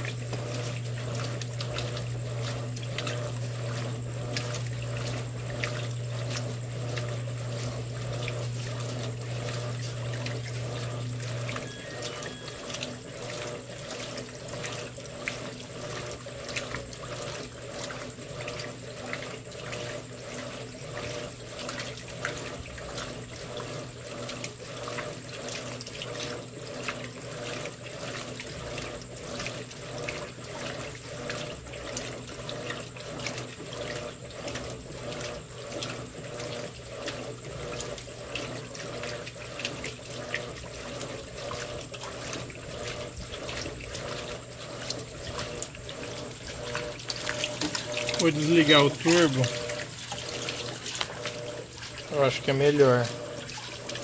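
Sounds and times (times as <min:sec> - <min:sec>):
low motor hum: 0:00.0 - 0:54.0
washing machine sloshing water: 0:00.0 - 0:54.0.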